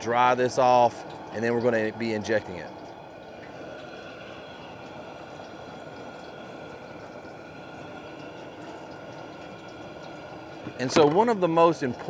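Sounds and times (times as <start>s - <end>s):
propane burner hissing: 0.0s - 12.0s.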